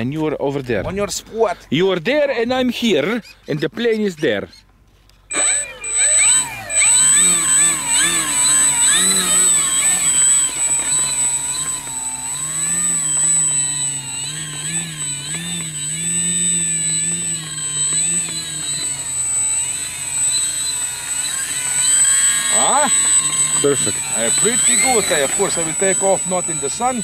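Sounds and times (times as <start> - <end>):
electric motor propeller whine: 5.3 - 27.0
thin high tone: 5.3 - 27.0.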